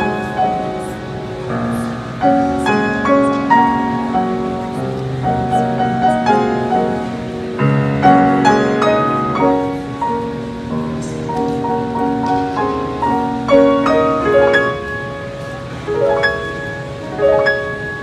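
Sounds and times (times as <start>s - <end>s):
upright piano playing chords: 0.0s - 18.0s.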